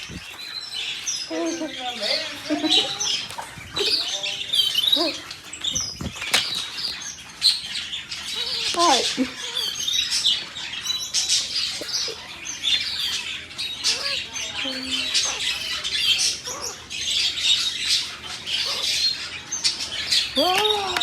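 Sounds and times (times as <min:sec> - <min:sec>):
parrots chirping and squawking: 0:00.0 - 0:21.0.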